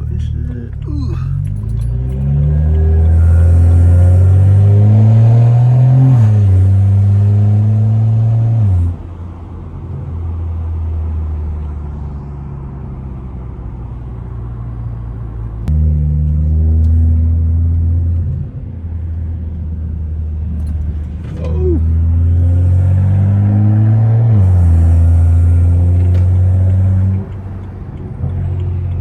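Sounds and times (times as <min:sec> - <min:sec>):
car engine and exhaust revving: 0:00.0 - 0:29.0.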